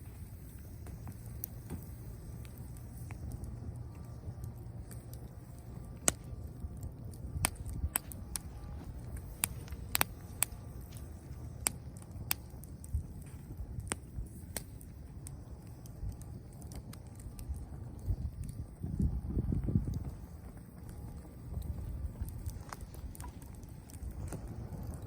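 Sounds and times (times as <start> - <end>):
bonfire crackling and popping: 0.0 - 25.0
low rumble of flames: 0.0 - 25.0.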